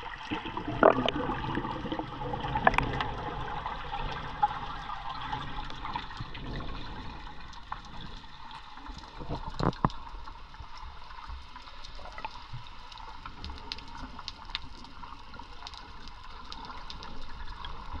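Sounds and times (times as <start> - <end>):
muffled underwater rushing: 0.0 - 18.0
small clicks underwater: 0.0 - 18.0.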